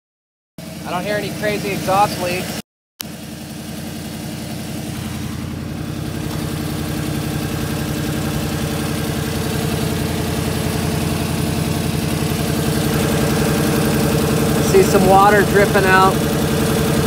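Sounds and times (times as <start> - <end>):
engine idling: 0.6 - 17.0.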